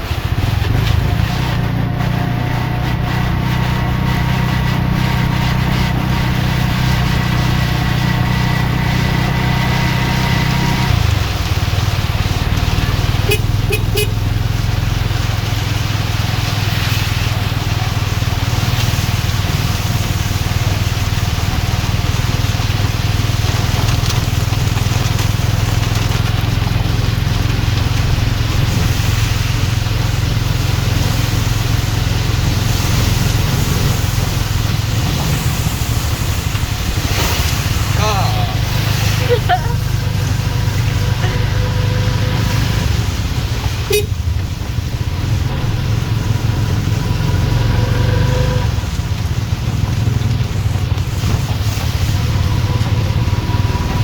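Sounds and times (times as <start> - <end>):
motor traffic hum: 0.0 - 54.0
steady rain: 0.0 - 54.0.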